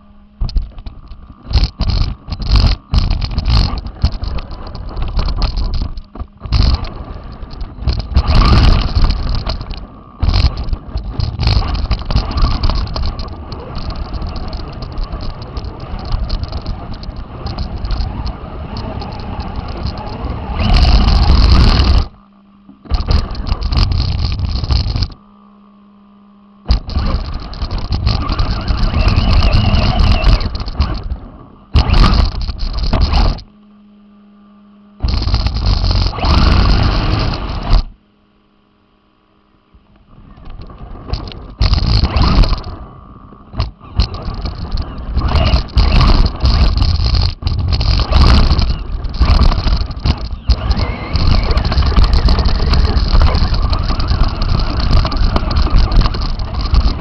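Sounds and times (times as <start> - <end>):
toy car rough rushing noise: 0.0 - 22.2, 22.8 - 25.2, 26.7 - 33.5, 35.0 - 38.0, 40.2 - 57.0
steady low hum: 0.0 - 57.0.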